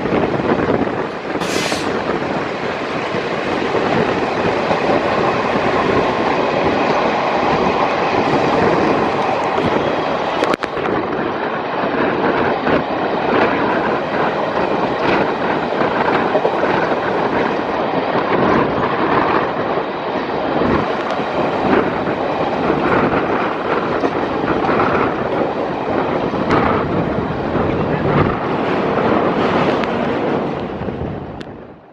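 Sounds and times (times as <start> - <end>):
diesel locomotive engine chugging: 0.0 - 31.3
train wheel and track noise: 0.0 - 31.9.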